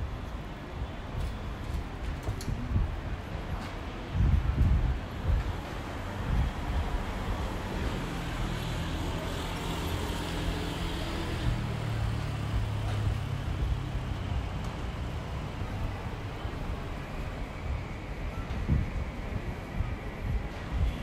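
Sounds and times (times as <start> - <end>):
city noise: 0.0 - 21.0.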